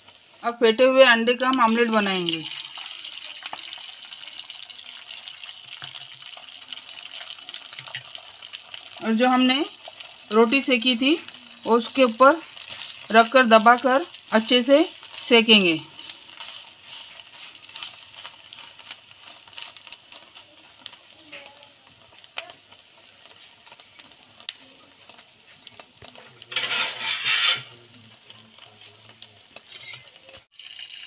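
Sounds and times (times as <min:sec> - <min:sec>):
bread sizzling in oil: 0:00.0 - 0:31.0.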